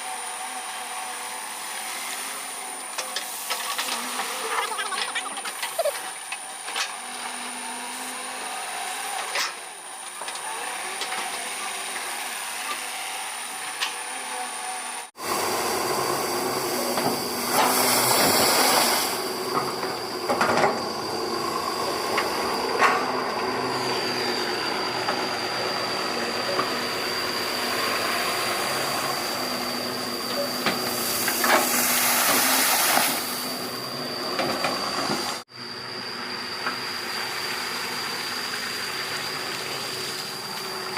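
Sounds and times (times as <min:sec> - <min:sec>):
excavator engine drone: 0:00.0 - 0:40.9
rushes of hissing: 0:00.0 - 0:40.9
thin high whine: 0:00.0 - 0:40.9.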